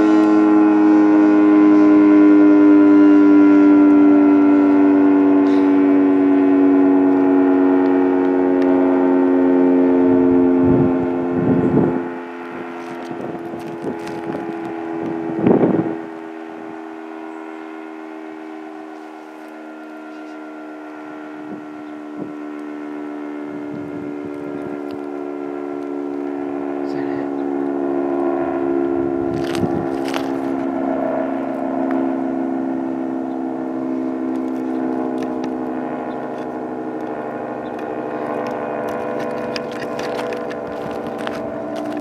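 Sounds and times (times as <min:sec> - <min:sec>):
three-tone siren: 0:00.0 - 0:42.0.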